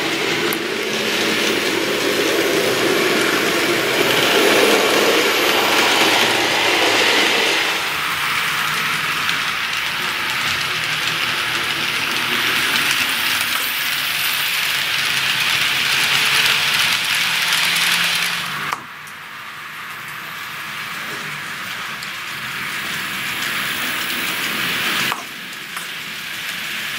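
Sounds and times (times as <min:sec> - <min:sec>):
model train wheels on rails: 0:00.0 - 0:26.9.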